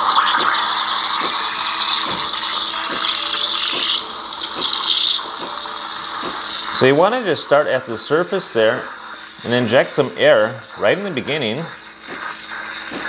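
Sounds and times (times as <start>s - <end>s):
steam wand hissing into milk: 0.0s - 13.0s.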